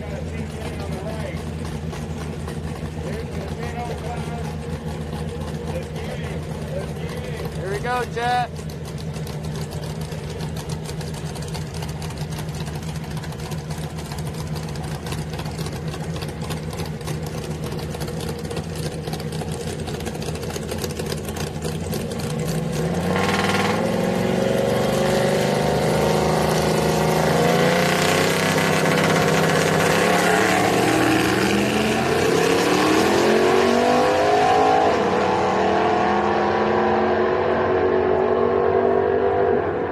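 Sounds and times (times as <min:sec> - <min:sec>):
truck engines idling and revving: 0:00.0 - 0:39.9.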